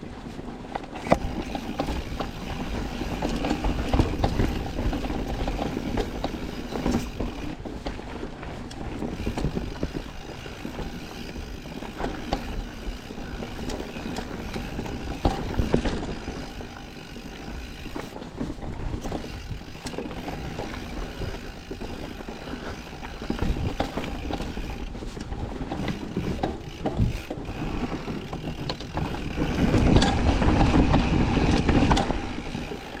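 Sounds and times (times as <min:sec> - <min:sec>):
bike clicks and rattles: 0:00.0 - 0:33.0
rush of tyre and wind noise: 0:00.0 - 0:33.0.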